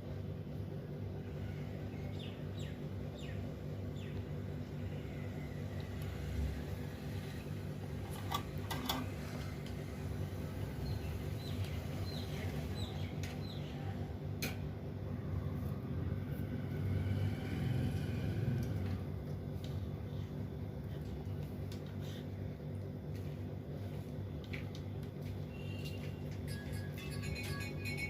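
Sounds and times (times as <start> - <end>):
fan hum and whir: 0.0 - 28.0.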